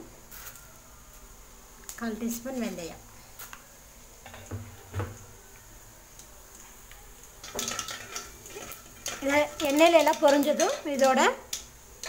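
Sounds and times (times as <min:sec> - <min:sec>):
seeds frying in hot oil: 0:00.0 - 0:12.0.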